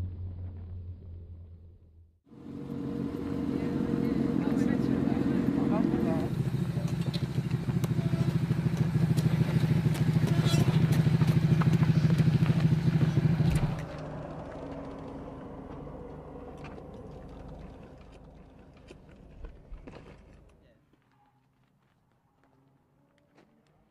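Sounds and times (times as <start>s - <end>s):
motorcycle engine running: 0.0s - 20.3s.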